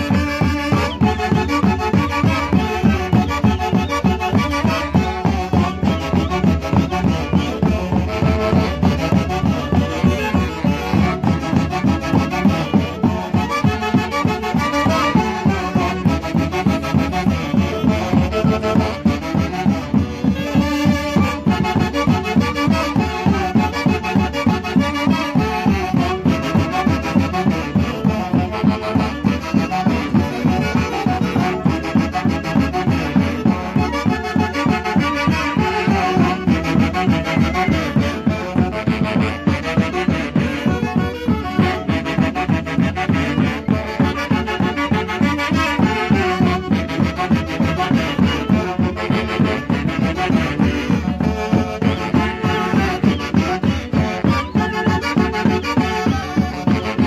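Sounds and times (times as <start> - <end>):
saxophones and clarinets melody: 0.0 - 57.0
violin: 0.0 - 57.0.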